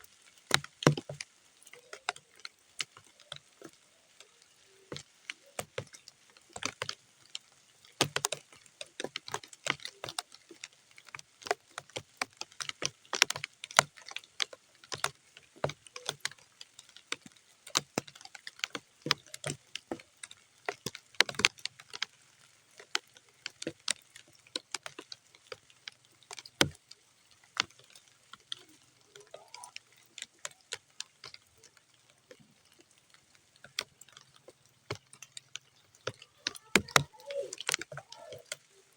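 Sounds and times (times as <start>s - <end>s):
raindrops splatting on mud: 0.0s - 38.9s.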